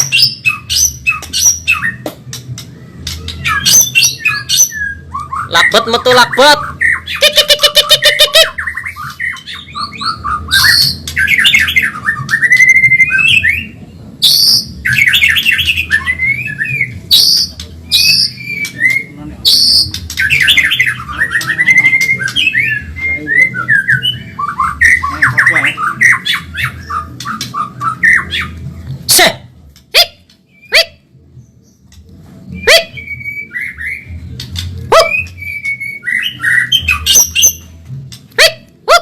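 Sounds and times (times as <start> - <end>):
songbird singing trills and whistles: 0.0 - 28.6, 30.4 - 37.8.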